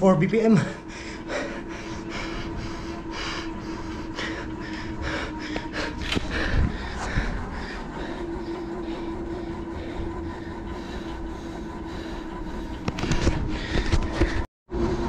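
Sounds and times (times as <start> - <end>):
exercise bike flywheel whirring: 0.0 - 15.0
rhythmic heavy breathing: 0.0 - 15.0.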